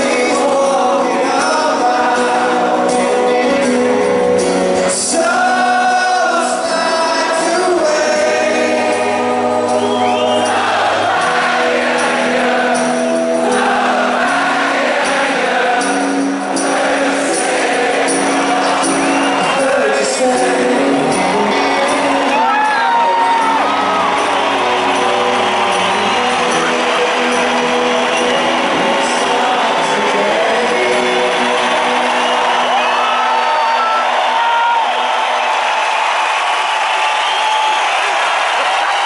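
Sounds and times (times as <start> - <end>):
live rock band with singing: 0.0 - 35.4
crowd noise: 0.0 - 39.0.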